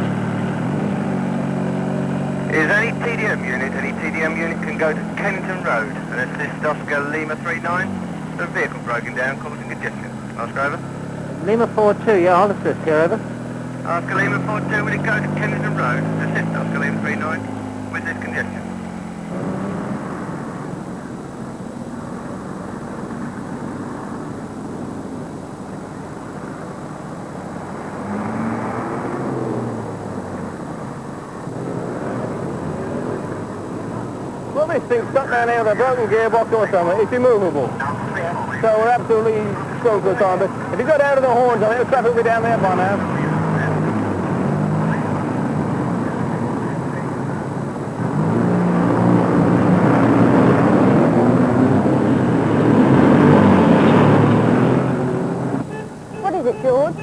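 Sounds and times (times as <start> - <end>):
road traffic engines: 0.0 - 57.0.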